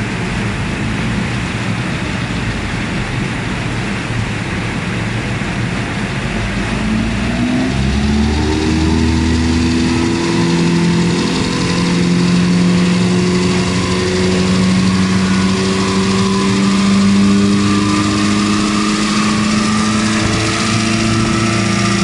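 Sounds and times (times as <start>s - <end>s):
car engine revving under load: 0.0s - 22.0s.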